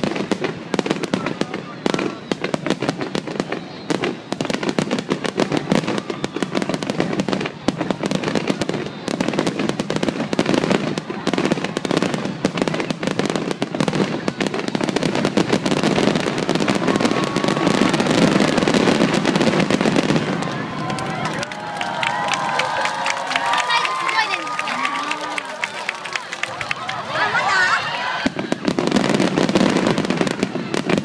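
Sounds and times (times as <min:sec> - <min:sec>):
firework bursts and crackling: 0:00.0 - 0:31.0.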